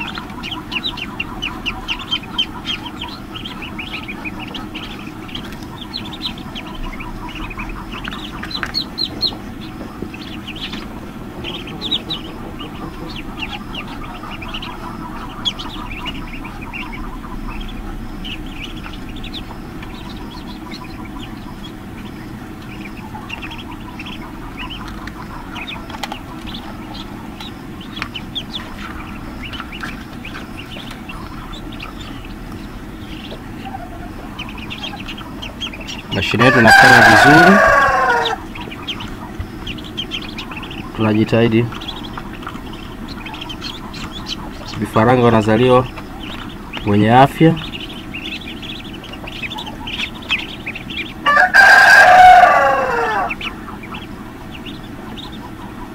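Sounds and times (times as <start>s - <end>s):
ducklings peeping: 0.0s - 55.9s
incubator hum: 0.0s - 55.9s.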